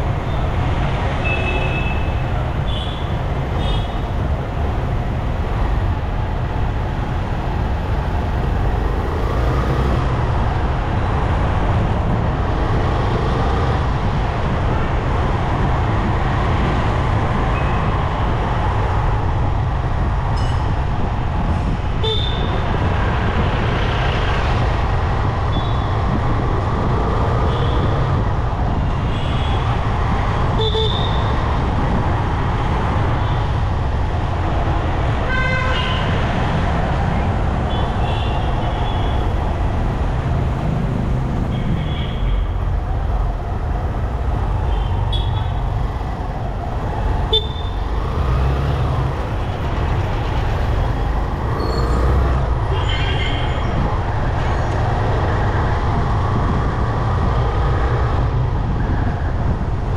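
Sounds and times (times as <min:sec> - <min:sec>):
road noise: 0:00.0 - 0:59.9
wind rush: 0:02.2 - 0:59.9.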